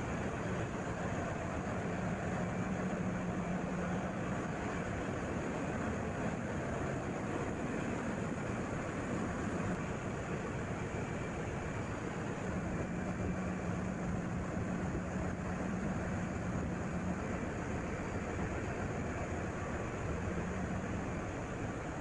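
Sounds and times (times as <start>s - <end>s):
engine room machinery noise: 0.0s - 22.0s
steady hum: 0.0s - 22.0s.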